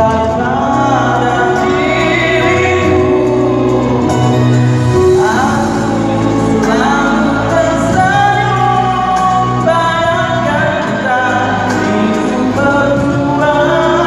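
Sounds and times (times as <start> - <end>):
amplified person singing: 0.0 - 14.0
backing music: 0.0 - 14.0.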